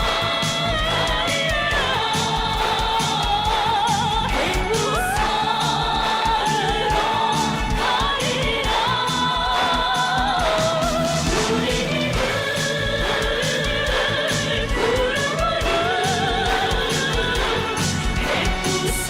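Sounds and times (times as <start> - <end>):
person singing: 0.0 - 19.0
pop band with steady beat: 0.0 - 19.0.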